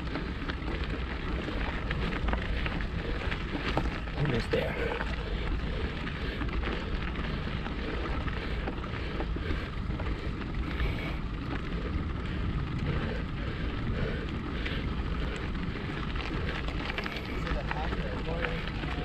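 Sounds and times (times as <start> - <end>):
bike tyres rolling on gravel: 0.0 - 19.0
wind rumble on microphone: 0.0 - 19.0.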